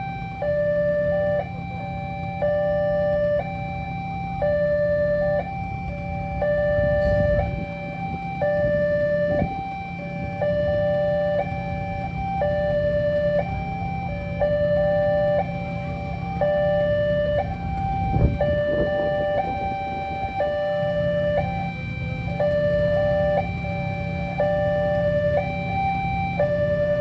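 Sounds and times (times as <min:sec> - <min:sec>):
level crossing electronic alarm: 0:00.0 - 0:27.0
steady low hum: 0:00.0 - 0:27.0.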